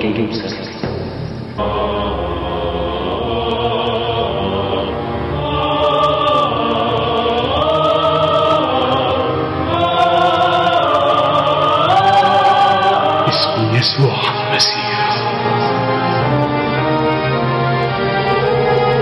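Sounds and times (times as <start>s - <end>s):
choir singing held notes: 0.8s - 19.0s.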